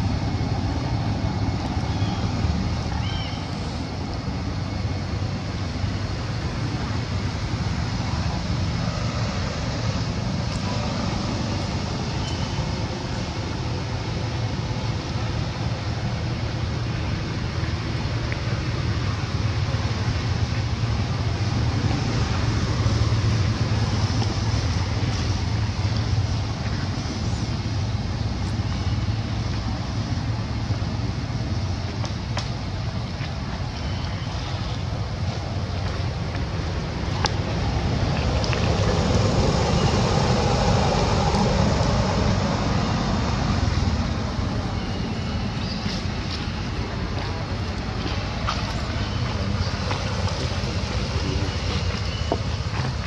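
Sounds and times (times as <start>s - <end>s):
low outdoor rumble and hiss: 0.0s - 53.0s.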